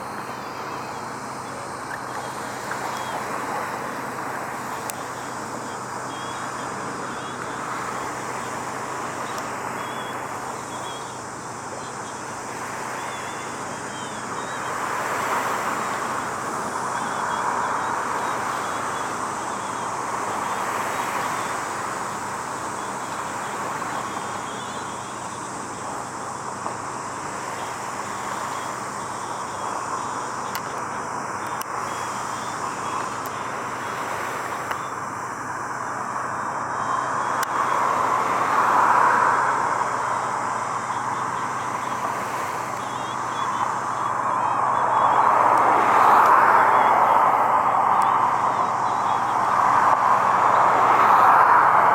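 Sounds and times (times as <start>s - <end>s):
road traffic: 0.0s - 51.9s
vehicles passing by: 0.0s - 51.9s.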